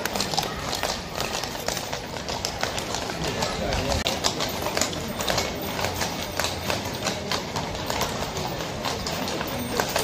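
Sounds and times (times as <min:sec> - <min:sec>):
horses' hooves clip-clopping: 0:00.0 - 0:10.0.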